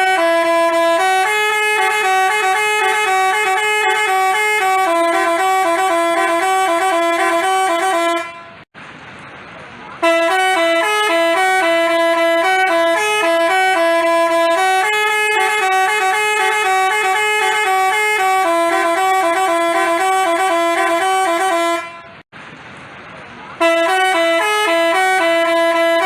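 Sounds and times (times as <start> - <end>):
multi-tone bus horn melody: 0.0 - 8.7, 10.0 - 22.3, 23.6 - 26.0.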